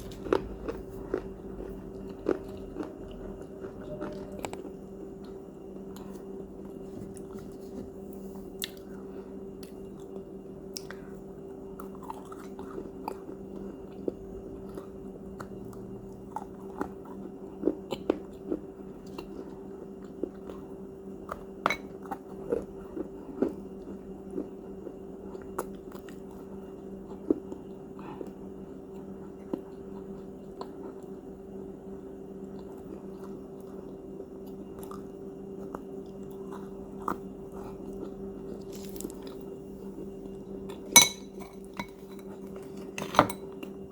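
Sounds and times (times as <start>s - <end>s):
person chewing crunchy cookies: 0.0s - 43.9s
steady low hum: 0.0s - 43.9s.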